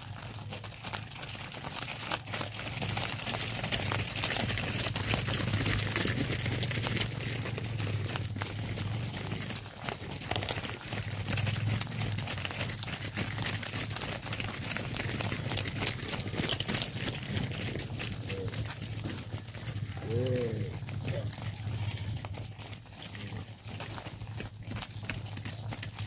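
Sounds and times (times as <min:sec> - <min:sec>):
crunching and clicking: 0:00.0 - 0:26.0.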